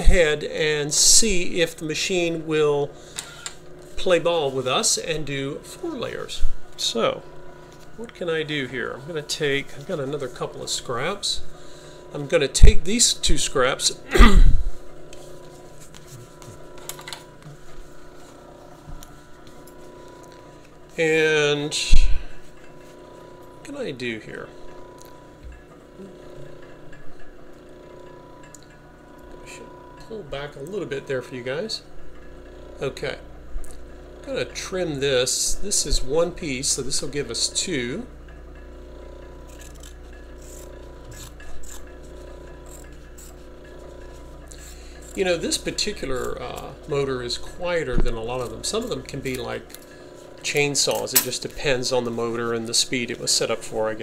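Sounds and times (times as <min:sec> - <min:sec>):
electric motor humming: 0:00.0 - 0:54.0.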